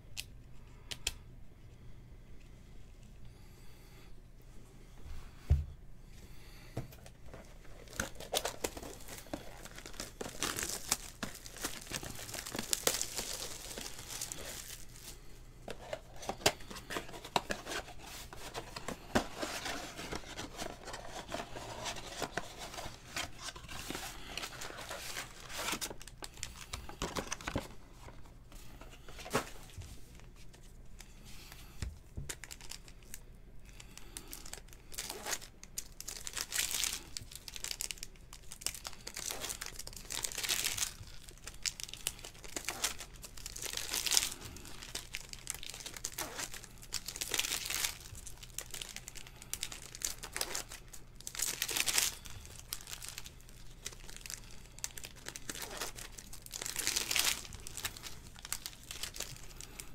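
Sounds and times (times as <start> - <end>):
crinkling of wrapping and cards: 6.1 - 59.9.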